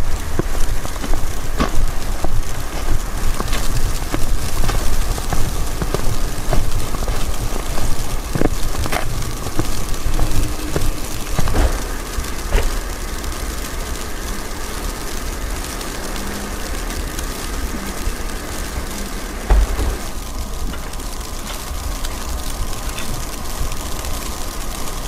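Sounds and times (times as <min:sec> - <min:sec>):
wind buffeting microphone: 0:00.0 - 0:14.9, 0:16.9 - 0:23.8
small clicks: 0:00.3 - 0:25.0.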